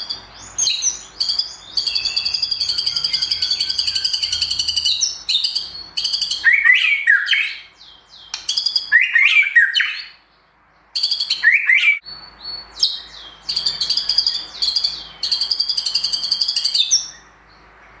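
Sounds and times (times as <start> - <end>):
bird singing trills and whistles: 0.0 - 10.3, 10.9 - 18.0.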